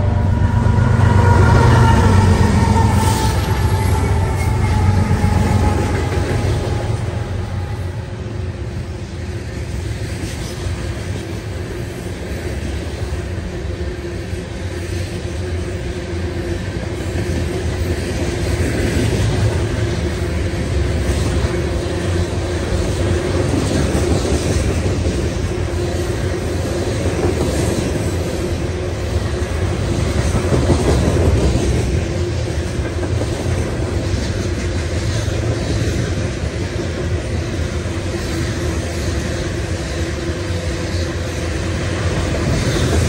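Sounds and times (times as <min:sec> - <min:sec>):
diesel locomotive engines: 0:00.0 - 0:43.0
train wheels on rails: 0:00.0 - 0:43.0.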